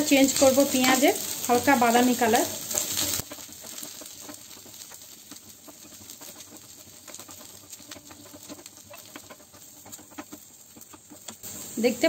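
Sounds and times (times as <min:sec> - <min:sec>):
onions sizzling in a frying pan: 0:00.0 - 0:12.0
small crackles and pops: 0:00.0 - 0:12.0.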